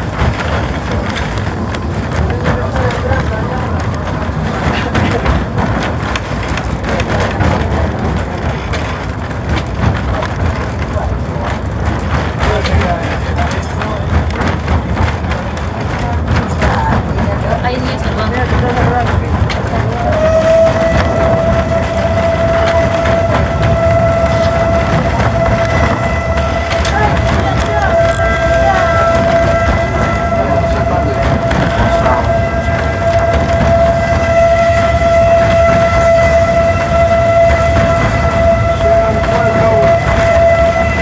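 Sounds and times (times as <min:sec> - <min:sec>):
rattles and knocks: 0:00.0 - 0:41.0
train carriage rumbling: 0:00.0 - 0:41.0
wheels clattering on rails: 0:00.0 - 0:41.0.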